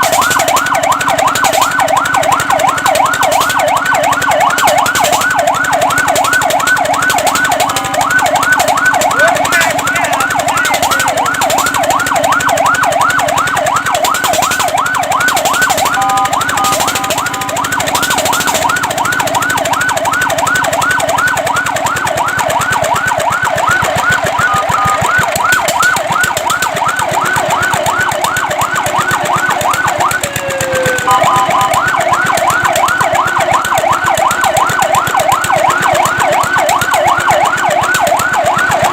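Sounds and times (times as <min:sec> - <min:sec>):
fire truck siren yelping: 0:00.0 - 0:38.9
siren steady held tones: 0:00.0 - 0:38.9.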